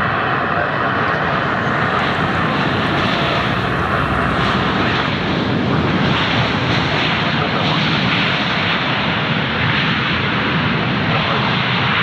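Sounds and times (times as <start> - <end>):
jet engines running: 0.0 - 10.5.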